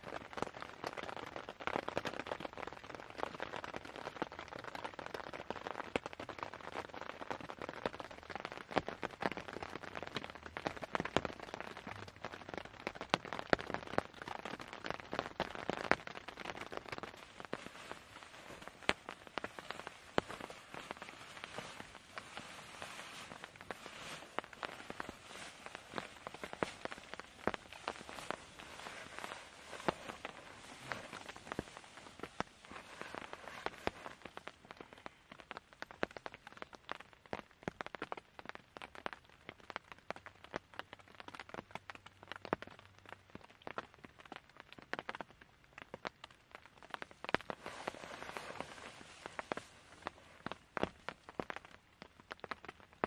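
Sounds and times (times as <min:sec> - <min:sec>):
rain hissing on a tent: 0:00.0 - 0:53.0.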